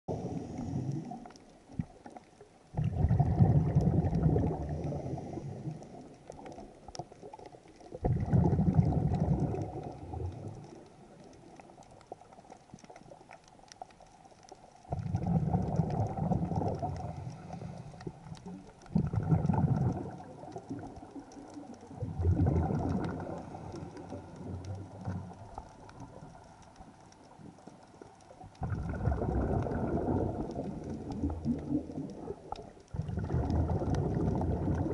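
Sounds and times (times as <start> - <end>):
underwater exhaust bubbles: 0.1 - 34.9.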